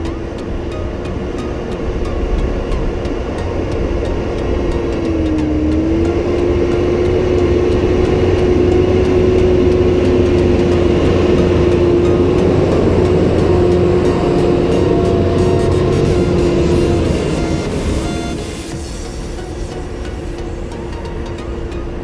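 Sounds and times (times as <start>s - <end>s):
steady whine: 0.0s - 22.0s
tractor engine under load: 0.0s - 22.0s.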